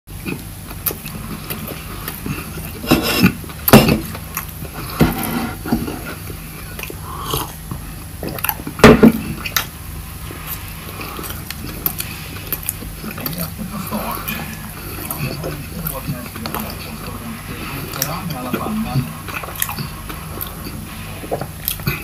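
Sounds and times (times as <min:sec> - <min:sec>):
open-mouthed chewing: 0:00.1 - 0:22.0.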